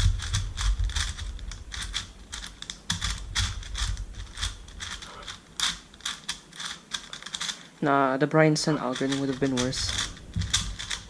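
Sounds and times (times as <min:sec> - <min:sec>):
puzzle cube plastic clicks: 0:00.0 - 0:07.8, 0:08.6 - 0:11.0.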